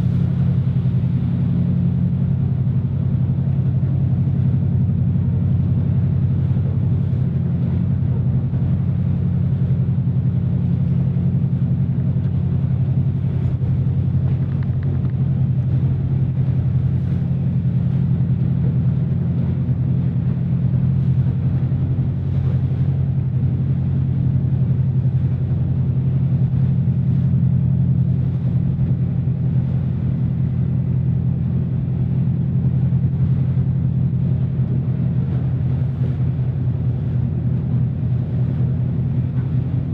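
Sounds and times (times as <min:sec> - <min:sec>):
marine engine droning: 0:00.0 - 0:39.9.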